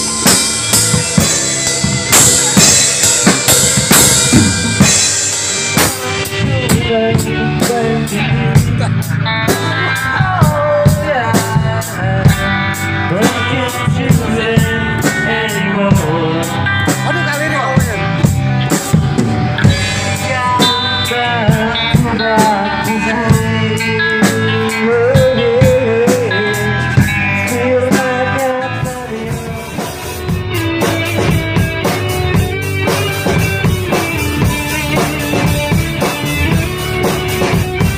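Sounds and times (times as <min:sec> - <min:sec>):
band playing blues rock: 0:00.0 - 0:37.9.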